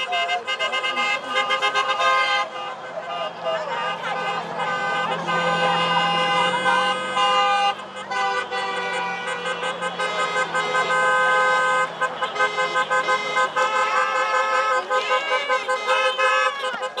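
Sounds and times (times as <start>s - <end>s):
car horns honking: 0.0s - 17.0s.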